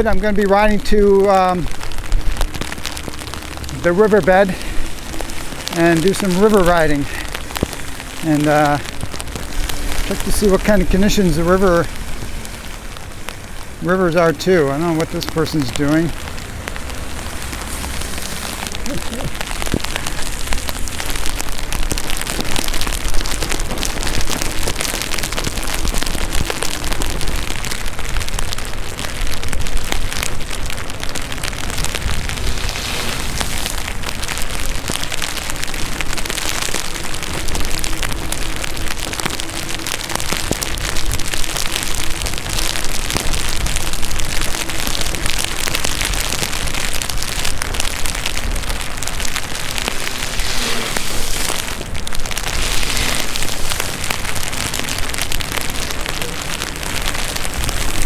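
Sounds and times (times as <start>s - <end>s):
heavy rain: 0.0s - 58.0s
low wind rumble: 0.0s - 58.0s.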